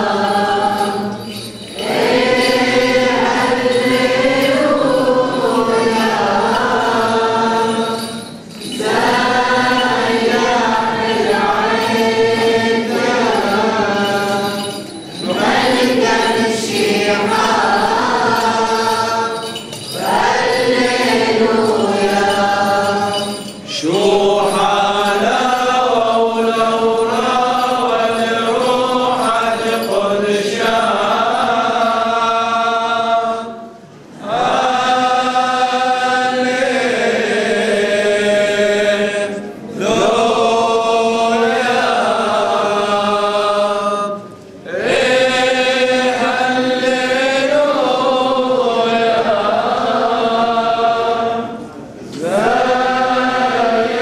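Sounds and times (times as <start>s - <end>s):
congregation singing a chant: 0.0s - 54.0s.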